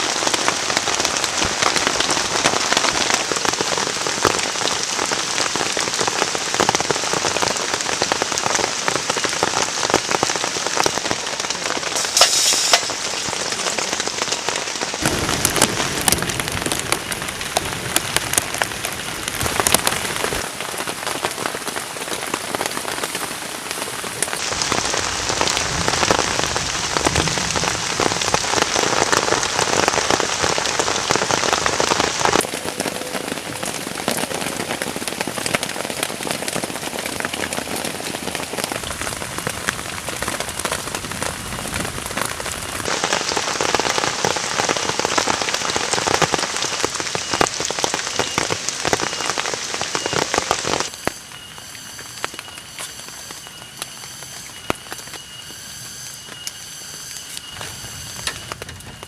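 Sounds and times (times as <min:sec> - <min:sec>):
heavy rain on a shelter: 0:00.0 - 0:59.0.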